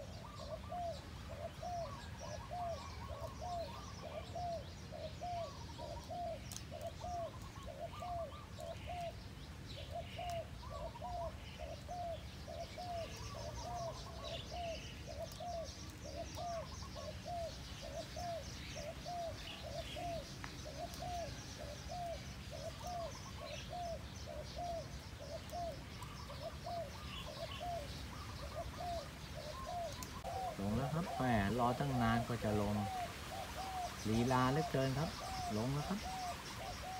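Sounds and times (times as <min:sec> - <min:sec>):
doves cooing: 0:00.0 - 0:36.9
small birds chirping: 0:00.0 - 0:36.9.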